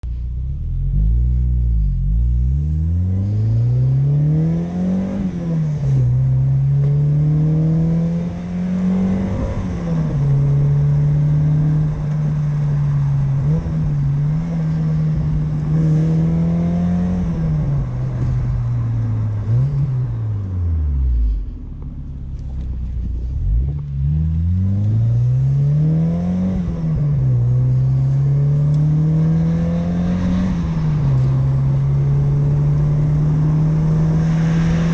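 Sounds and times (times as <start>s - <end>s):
car engine revving through gears: 0.6s - 21.4s, 22.9s - 34.9s.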